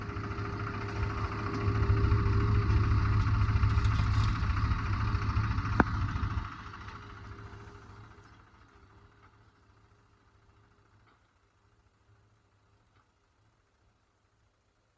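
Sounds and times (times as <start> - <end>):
diesel engine clattering: 0.0 - 14.3
faint steady hum: 0.0 - 14.9.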